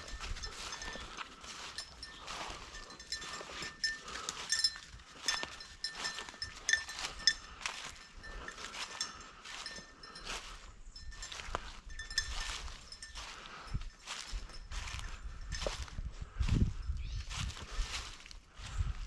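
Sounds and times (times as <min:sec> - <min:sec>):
collar bell jingling: 0:00.0 - 0:18.3
footsteps crunching through dry cover: 0:00.0 - 0:19.0.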